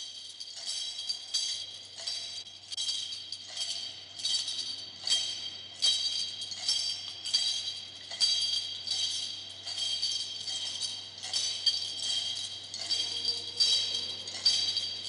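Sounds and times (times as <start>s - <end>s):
jingling metal percussion: 0.0s - 15.0s.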